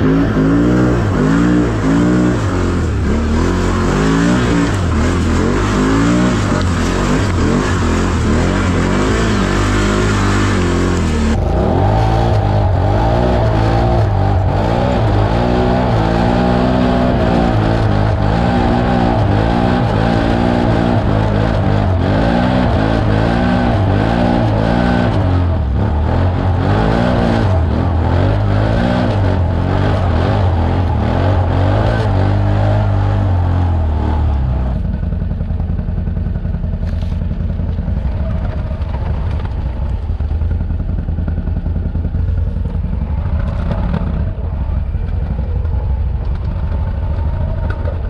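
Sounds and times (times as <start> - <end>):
atv engine revving: 0.0 - 48.0.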